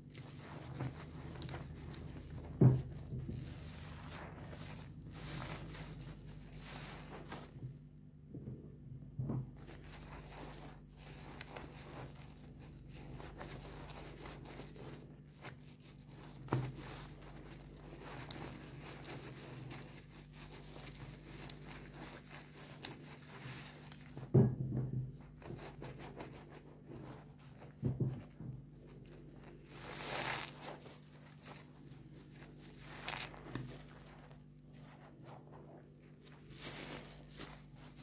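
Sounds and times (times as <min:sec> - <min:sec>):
sponge squelches: 0:00.0 - 0:08.0, 0:09.1 - 0:38.0
sponge squishing in soapy water: 0:00.0 - 0:38.0.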